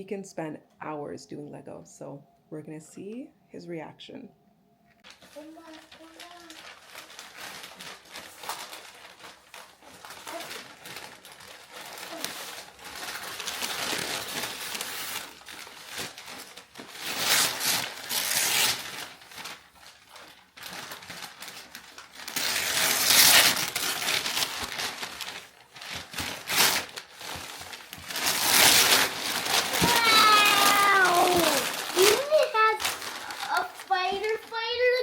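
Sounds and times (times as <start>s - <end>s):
packaging rustling: 5.0s - 35.0s
packaging tearing: 5.1s - 35.0s.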